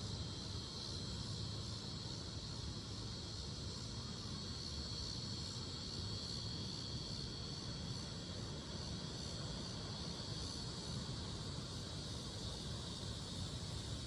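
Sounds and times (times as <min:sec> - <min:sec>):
cicadas singing: 0:00.0 - 0:14.0.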